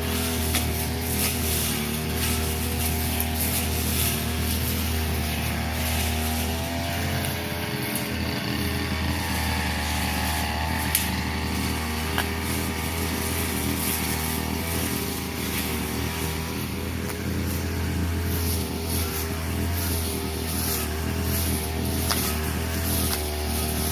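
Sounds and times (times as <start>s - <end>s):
brush cutter cutting grass: 0.0s - 23.9s.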